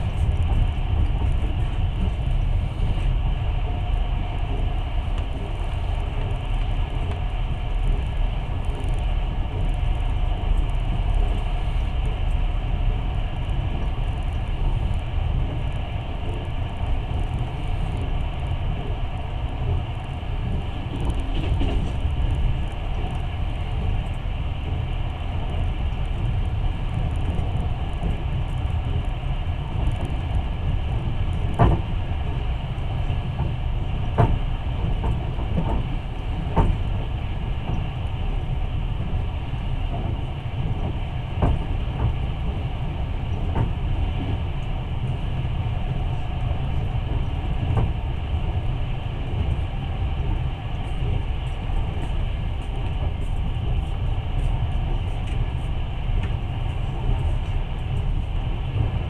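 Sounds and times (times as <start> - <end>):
train rumbling on track: 0.0 - 59.0.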